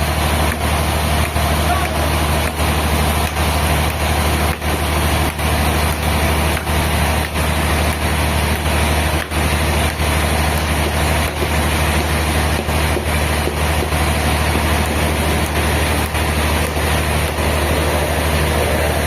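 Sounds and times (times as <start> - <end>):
continuous rushing noise: 0.0 - 19.0
motor hum: 0.0 - 19.0.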